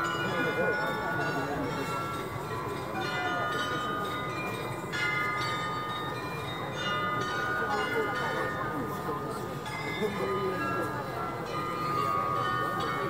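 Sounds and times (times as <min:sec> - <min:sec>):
crowd murmur: 0:00.0 - 0:13.0
glockenspiel bells playing a tune: 0:00.0 - 0:13.0.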